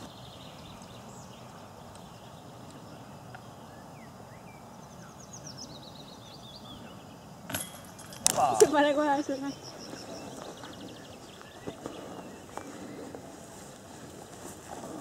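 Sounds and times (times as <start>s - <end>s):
bird chirps: 0.0s - 7.4s, 8.0s - 13.2s.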